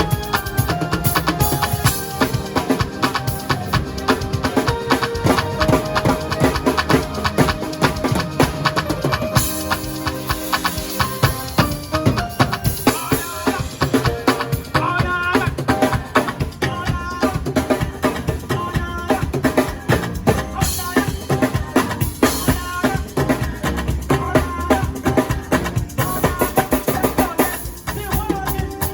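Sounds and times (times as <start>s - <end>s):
band playing live music: 0.0s - 28.9s
drum kit fast beat: 0.0s - 28.9s.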